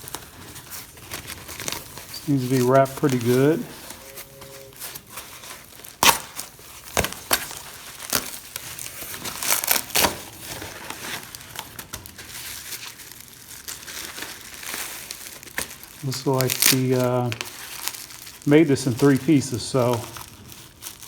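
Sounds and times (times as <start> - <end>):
packing wrap crinkling and tearing: 0.0 - 21.0.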